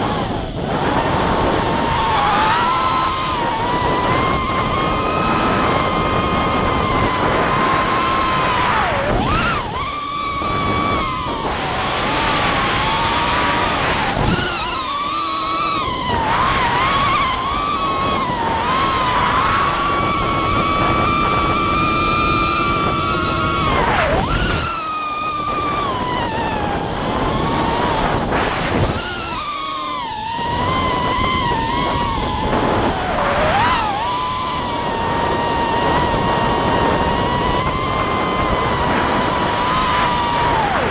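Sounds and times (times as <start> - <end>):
drone motors whining: 0.0 - 40.9
steady rush of noise: 0.0 - 40.9.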